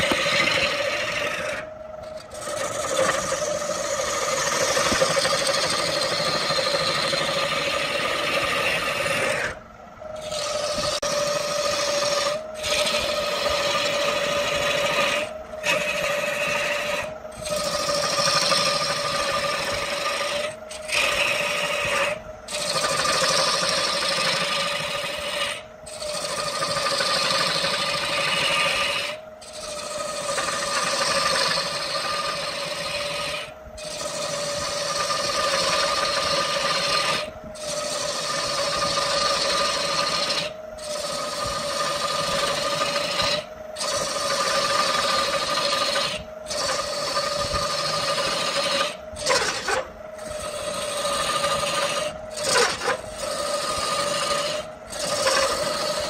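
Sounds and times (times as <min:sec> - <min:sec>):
tool scraping spinning wood: 0:00.0 - 0:56.0
wood lathe motor hum: 0:00.0 - 0:56.0.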